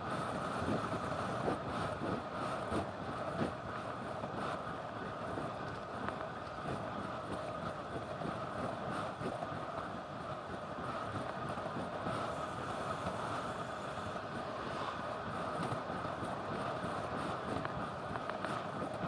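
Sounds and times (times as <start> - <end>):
bike tyres rumbling on asphalt: 0.0 - 19.0.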